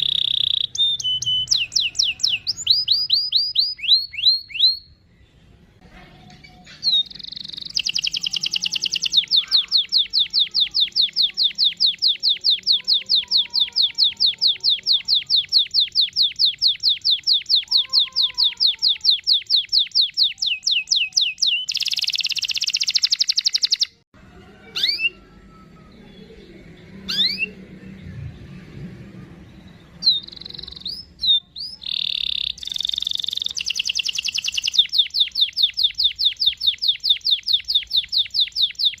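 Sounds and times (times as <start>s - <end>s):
canary singing trills: 0.0s - 5.4s, 6.5s - 24.0s, 24.7s - 28.0s, 29.4s - 39.0s
canary chirps: 0.0s - 5.6s, 6.4s - 24.0s, 24.6s - 28.7s, 29.3s - 39.0s.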